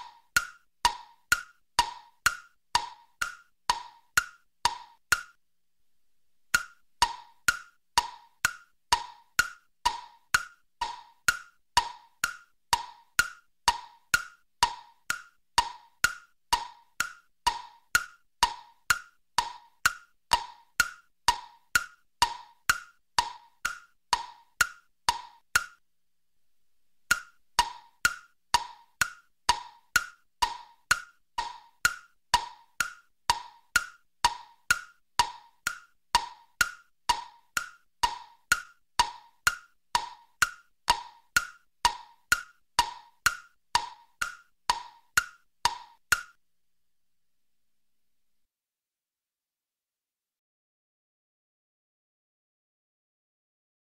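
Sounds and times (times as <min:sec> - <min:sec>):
wood-block knocks: 0:00.0 - 0:05.4, 0:06.6 - 0:25.8, 0:27.1 - 0:46.4.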